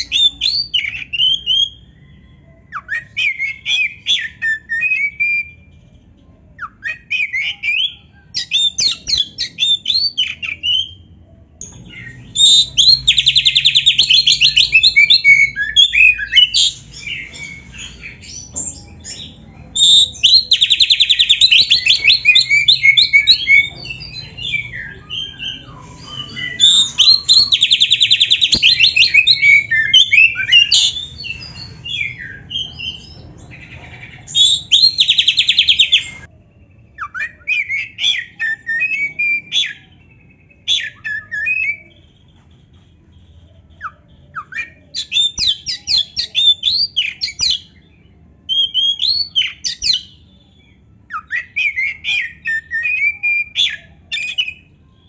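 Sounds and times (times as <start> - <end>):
bird singing trills and whistles: 0.0 - 5.7, 6.6 - 55.0.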